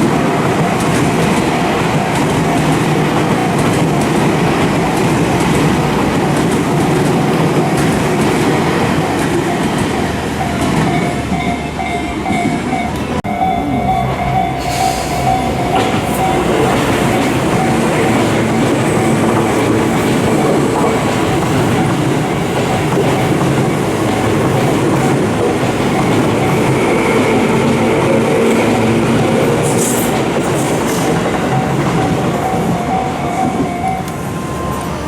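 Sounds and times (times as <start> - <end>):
crossing warning bell ringing: 0.0 - 35.0
train wheels rumbling on rails: 0.0 - 35.0.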